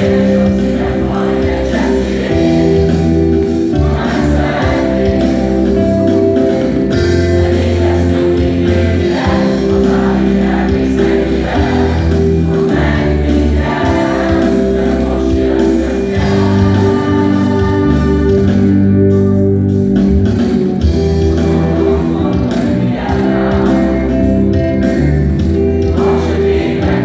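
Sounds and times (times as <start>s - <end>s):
song with singing voices: 0.0s - 19.8s, 20.4s - 27.0s.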